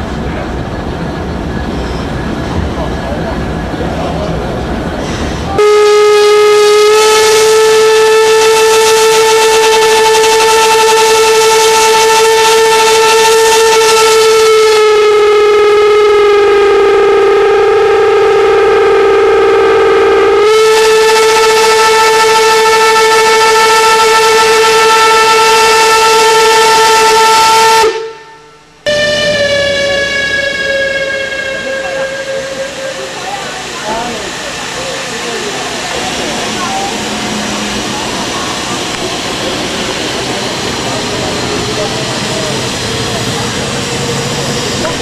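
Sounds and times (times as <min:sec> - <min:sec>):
steam locomotive whistle: 0:05.5 - 0:45.0.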